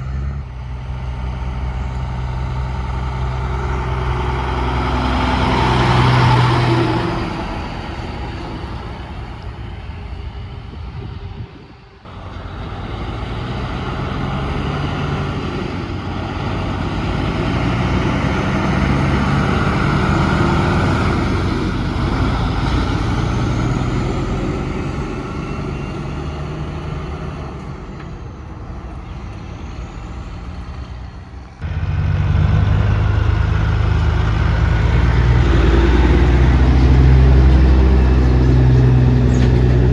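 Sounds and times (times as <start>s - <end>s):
road noise: 0.0s - 39.9s
truck diesel engines passing: 0.0s - 39.9s.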